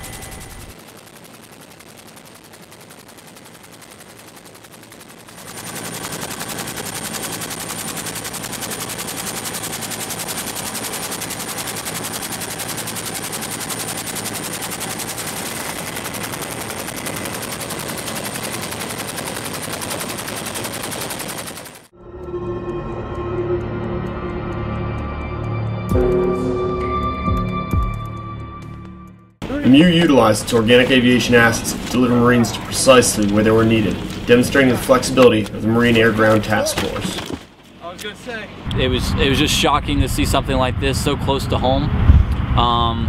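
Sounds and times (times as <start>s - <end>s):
helicopter rotor chopping: 0.0s - 21.9s, 29.4s - 43.0s.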